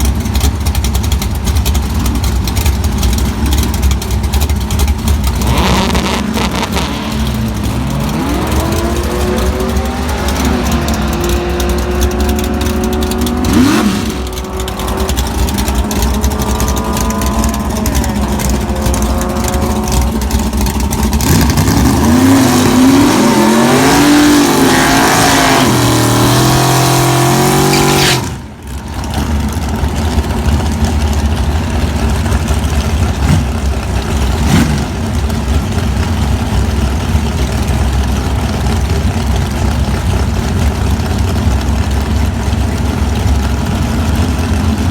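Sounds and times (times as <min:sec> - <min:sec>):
drag car engine revving: 0:00.0 - 0:44.9.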